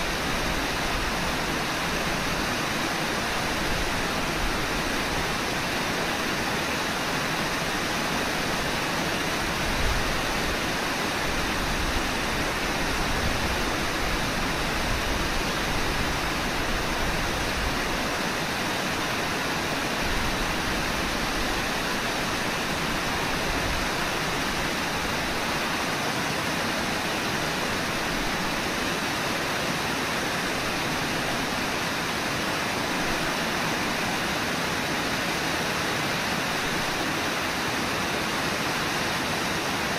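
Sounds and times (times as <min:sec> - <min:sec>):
river water rushing over riffles: 0:00.0 - 0:39.9.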